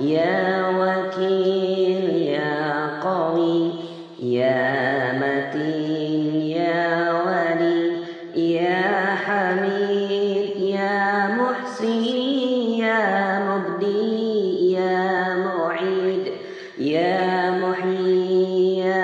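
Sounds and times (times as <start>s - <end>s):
person chanting: 0.0s - 19.0s.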